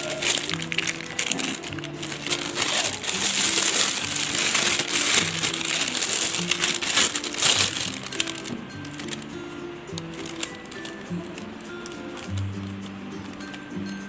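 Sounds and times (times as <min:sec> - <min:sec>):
plastic bag crinkling: 0:00.0 - 0:14.0
soft background music: 0:00.0 - 0:14.0.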